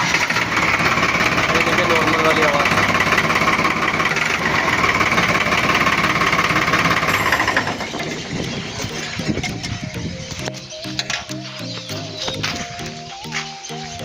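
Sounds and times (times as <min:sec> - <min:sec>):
diesel tractor engine clattering: 0:00.0 - 0:14.0.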